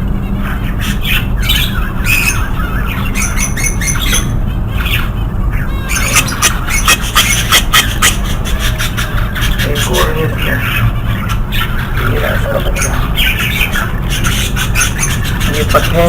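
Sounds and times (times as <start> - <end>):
steady low hum: 0.0 - 16.0
bird chicks squawking: 0.2 - 16.0.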